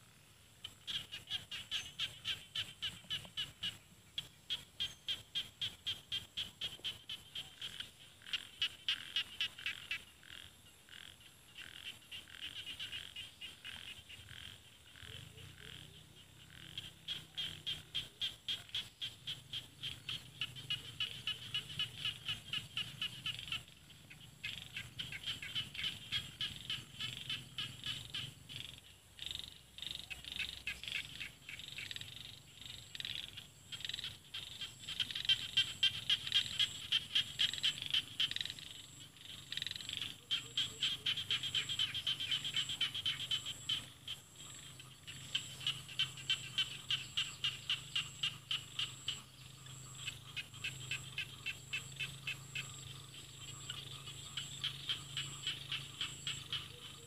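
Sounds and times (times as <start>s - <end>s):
frogs calling in clicking pulses: 0.6s - 57.0s.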